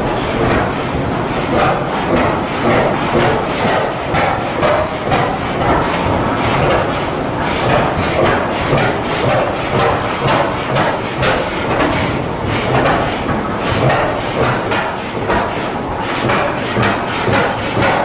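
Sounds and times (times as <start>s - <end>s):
stationary gas engines running: 0.0s - 18.0s.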